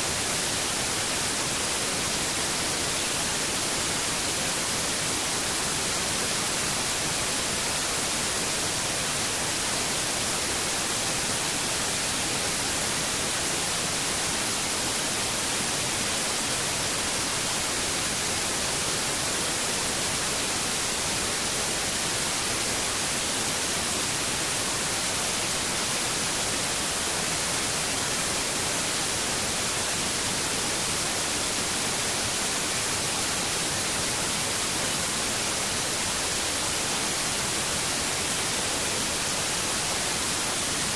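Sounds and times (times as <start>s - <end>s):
steady static hiss: 0.0s - 40.9s.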